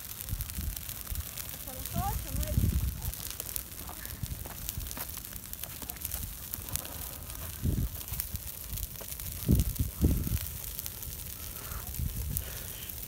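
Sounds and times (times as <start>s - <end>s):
dry grass burning and crackling: 0.0s - 13.0s.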